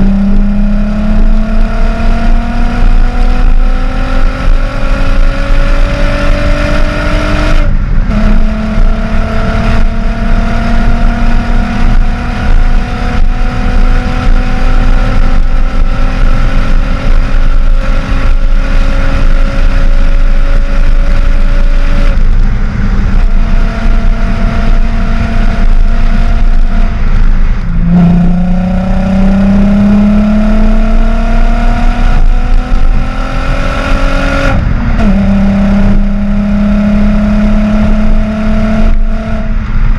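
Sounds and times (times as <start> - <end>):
car exhaust accelerating through gears: 0.0 - 39.9.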